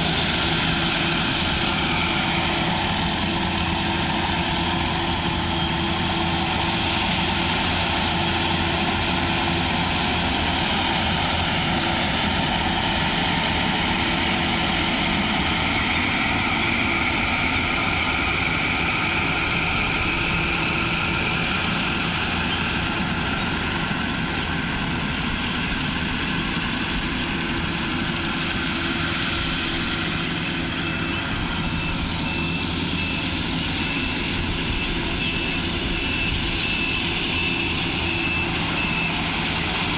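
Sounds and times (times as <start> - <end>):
harvesting machine engine running: 0.0 - 39.9.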